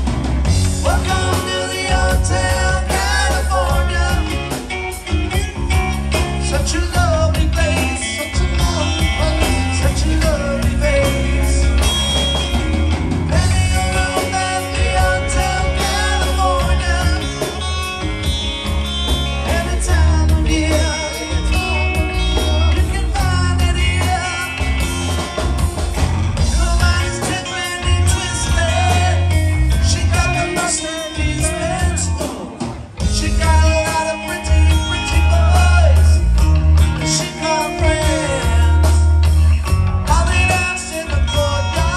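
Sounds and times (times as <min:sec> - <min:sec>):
rock band playing live: 0:00.0 - 0:41.9
person singing: 0:00.7 - 0:12.3, 0:13.3 - 0:18.0, 0:19.3 - 0:25.4, 0:26.4 - 0:41.9.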